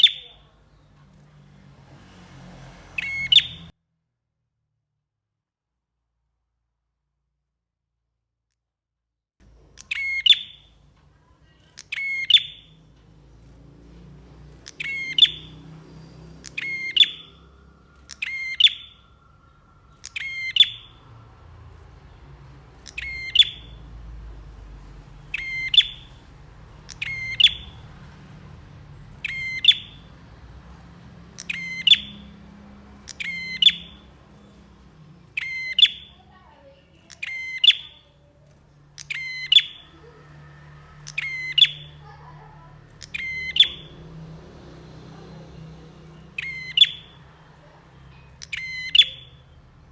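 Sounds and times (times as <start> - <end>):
bird giving rapid sharp calls: 0.0 - 3.7, 9.7 - 10.8, 11.4 - 49.6
faint low hum: 9.4 - 49.9.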